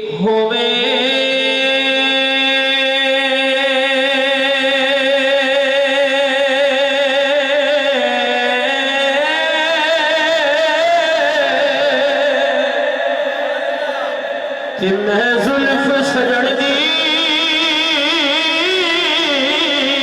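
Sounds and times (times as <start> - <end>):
man singing long note with vibrato: 0.0 - 20.0.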